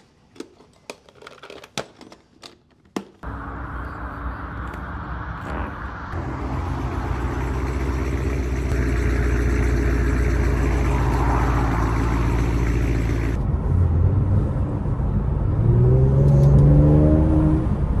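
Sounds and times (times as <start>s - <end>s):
car engine accelerating: 3.2s - 18.0s.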